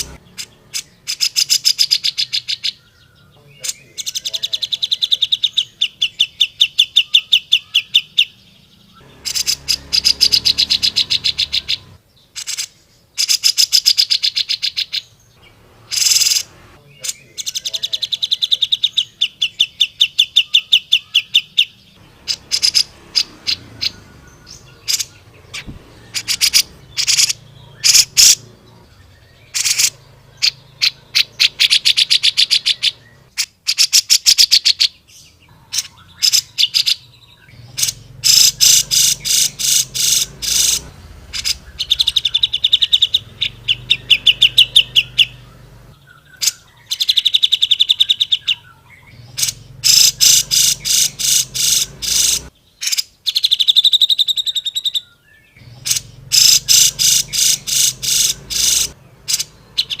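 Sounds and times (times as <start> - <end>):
bird singing chattering trills: 0.0 - 60.0.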